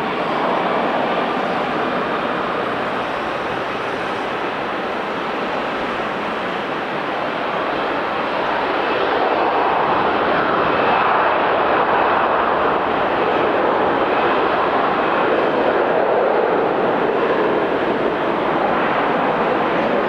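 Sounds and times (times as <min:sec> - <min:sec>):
jet engines rushing with whine: 0:00.0 - 0:20.0.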